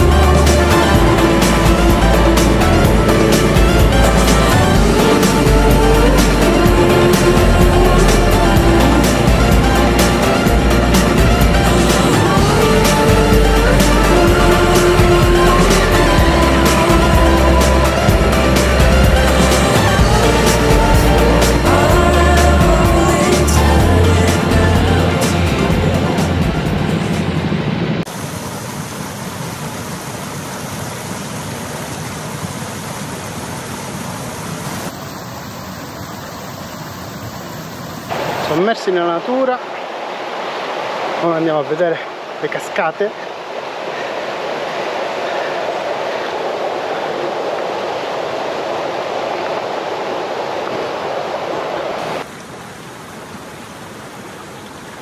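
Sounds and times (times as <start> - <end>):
steady rushing noise: 0.0 - 30.8, 33.0 - 52.3.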